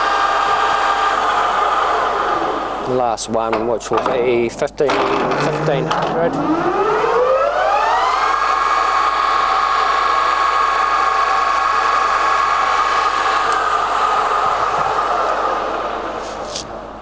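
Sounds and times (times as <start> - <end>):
lathe spindle whining: 0.0 - 17.0.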